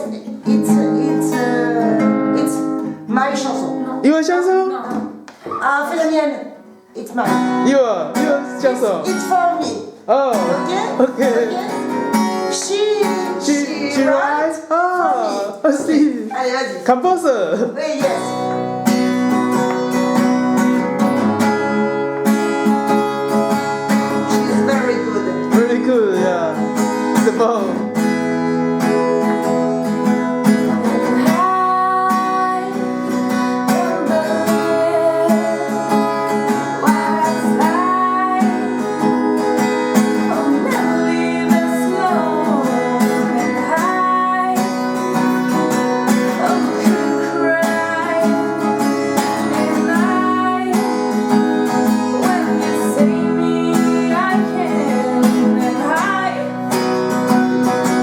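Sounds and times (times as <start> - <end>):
person singing: 0.0 - 3.0, 8.2 - 16.1, 18.0 - 19.5, 22.9 - 28.0, 28.8 - 58.0
acoustic guitar: 0.0 - 58.0.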